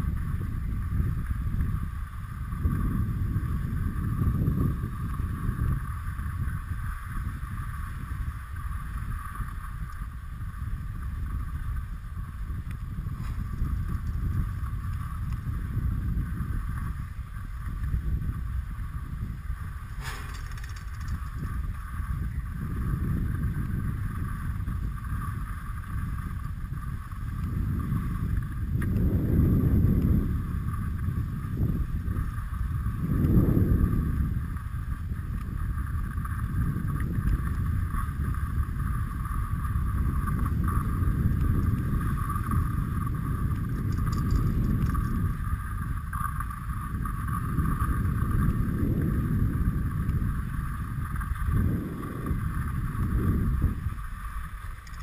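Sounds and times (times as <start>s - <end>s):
skis gliding over snow: 0.0s - 55.0s
wind buffeting microphone: 0.0s - 55.0s.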